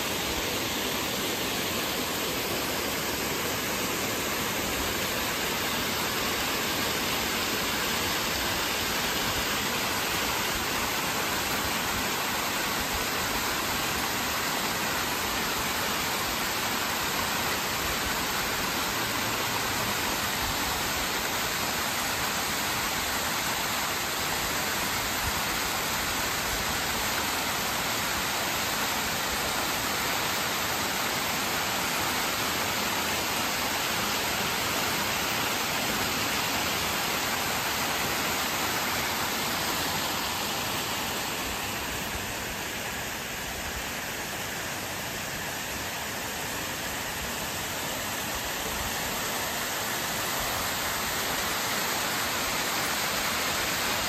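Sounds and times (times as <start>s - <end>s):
stream water rushing over rocks: 0.0s - 54.0s.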